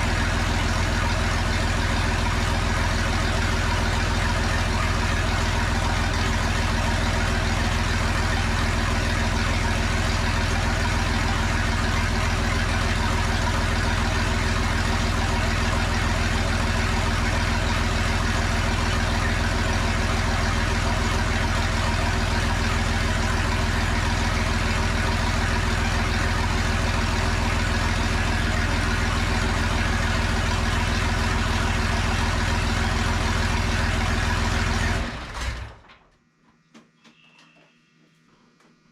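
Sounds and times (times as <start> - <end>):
tractor diesel engine idling: 0.0 - 35.8.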